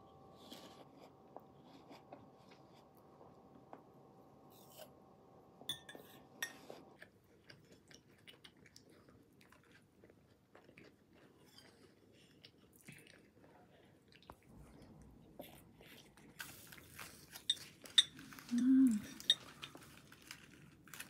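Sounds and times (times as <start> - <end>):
faint steady hum: 0.0 - 21.0
quiet chewing: 0.4 - 3.9, 6.5 - 21.0.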